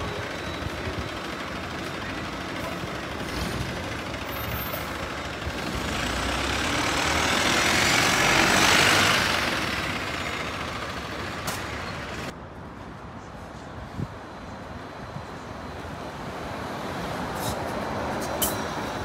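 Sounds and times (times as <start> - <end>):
bus driving past: 0.0 - 19.0.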